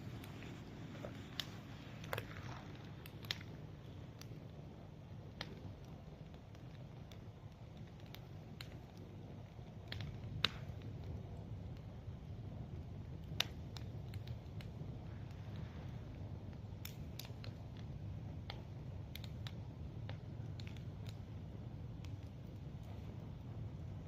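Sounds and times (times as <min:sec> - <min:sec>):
bonfire crackling and popping: 0:00.0 - 0:24.0.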